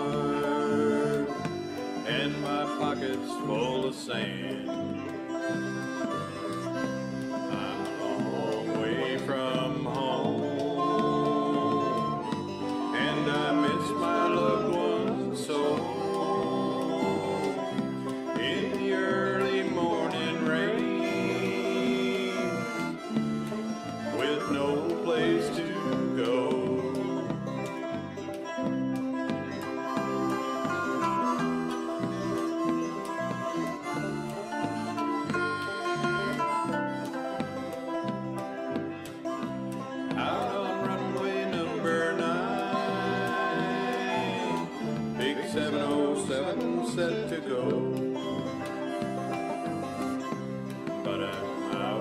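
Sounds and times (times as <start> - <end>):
acoustic guitar strumming: 0.0 - 52.0
backing instruments held notes: 0.0 - 52.0
resonator banjo picking: 0.0 - 52.0
sliding lead guitar line: 0.0 - 52.0.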